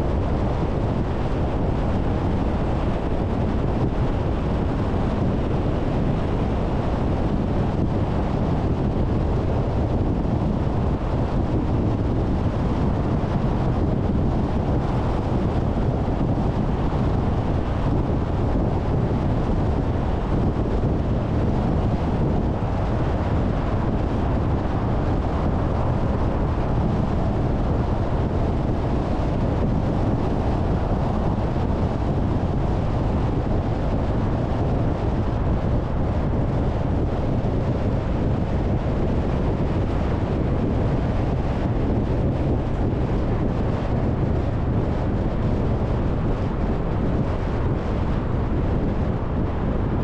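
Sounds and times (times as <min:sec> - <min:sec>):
car road rumble: 0:00.0 - 0:50.0
wind noise on microphone: 0:00.0 - 0:50.0.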